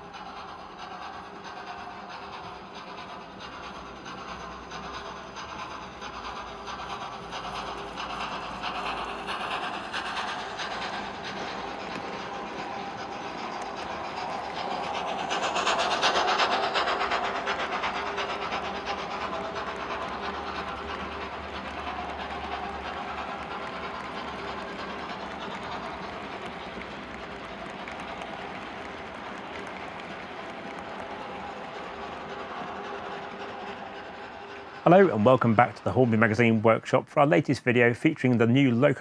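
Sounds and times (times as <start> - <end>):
model steam locomotive sound: 0.0 - 39.0.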